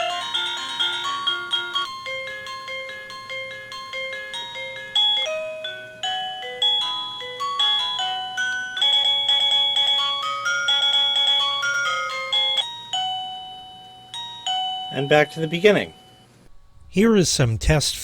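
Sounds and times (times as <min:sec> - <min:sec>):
doorbell chime melody: 0:00.0 - 0:16.3.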